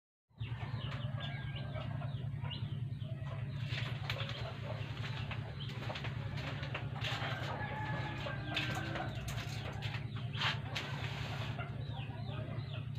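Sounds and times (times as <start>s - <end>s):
birds chirping: 0.4s - 12.9s
steady low hum: 0.4s - 12.9s.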